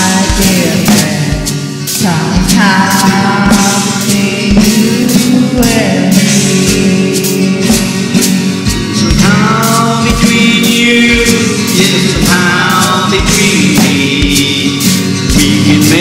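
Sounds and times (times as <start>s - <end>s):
sliding lead melody: 0.0s - 16.0s
steady drum beat: 0.0s - 16.0s
strummed acoustic guitar: 0.0s - 16.0s.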